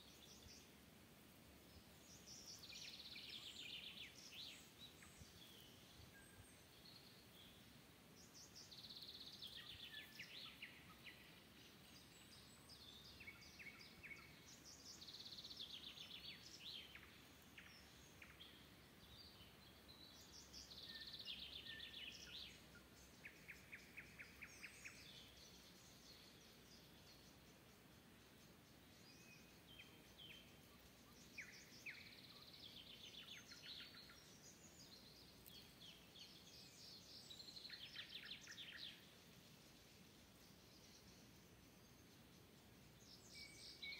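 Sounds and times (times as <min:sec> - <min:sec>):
faint background hiss: 0:00.0 - 0:43.9
songbirds singing: 0:00.0 - 0:43.9.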